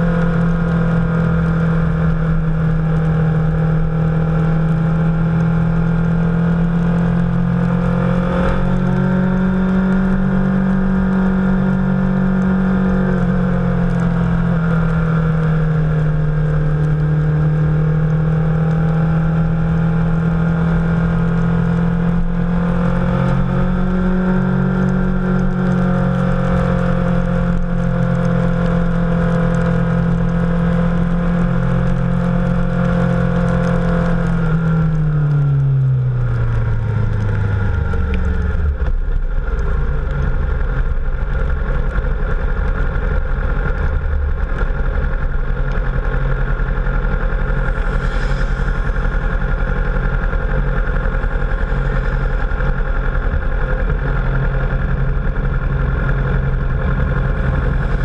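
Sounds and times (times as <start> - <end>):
motorcycle engine: 0.0 - 58.0
wind and road noise: 0.0 - 58.0.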